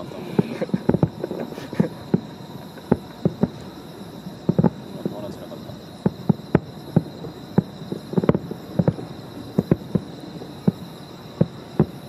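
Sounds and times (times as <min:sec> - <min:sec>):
fireworks bangs: 0:00.0 - 0:12.0
insects chirring: 0:00.0 - 0:12.0.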